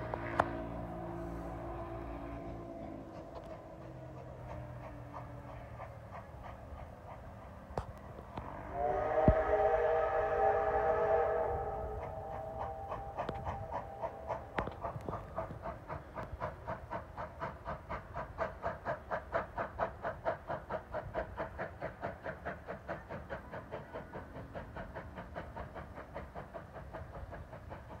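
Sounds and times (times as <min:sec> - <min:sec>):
steam locomotive chuffing: 0:00.0 - 0:28.0.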